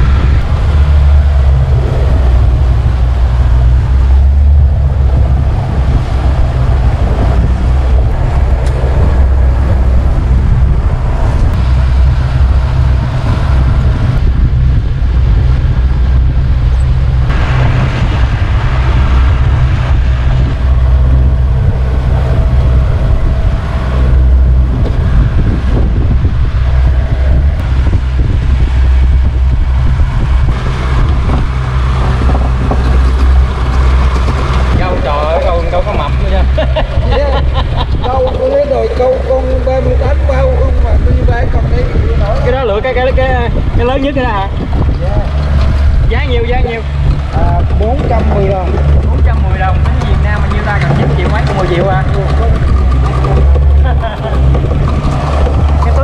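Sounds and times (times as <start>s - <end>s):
outboard motor drone: 0.0s - 56.0s
water rushing past hull: 0.0s - 56.0s
wind buffeting microphone: 0.0s - 56.0s.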